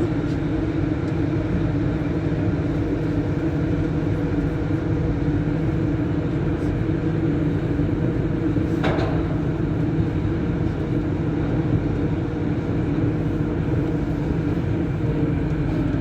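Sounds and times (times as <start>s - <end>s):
train hum and rolling noise: 0.0s - 16.0s.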